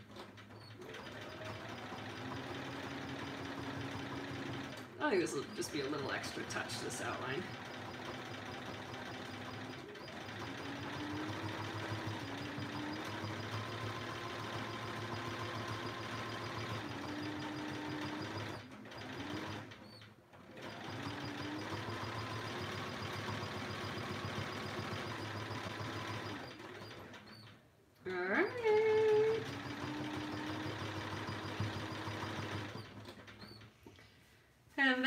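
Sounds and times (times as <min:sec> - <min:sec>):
sewing machine running: 0:00.0 - 0:27.6, 0:28.3 - 0:33.7.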